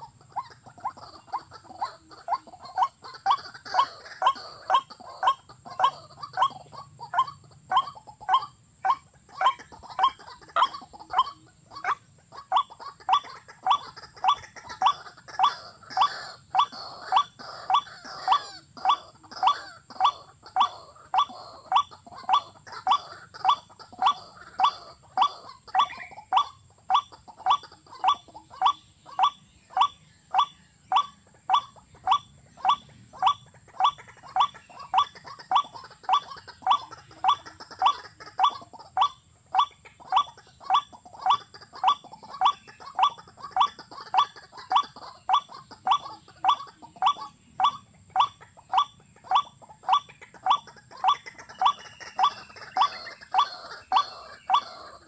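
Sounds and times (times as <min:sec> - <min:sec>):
water bird calling: 0:00.0 - 0:55.0.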